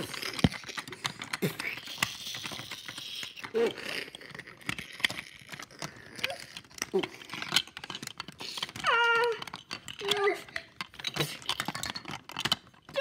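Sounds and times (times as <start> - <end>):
plastic bricks clicking and rattling: 0.0 - 13.0.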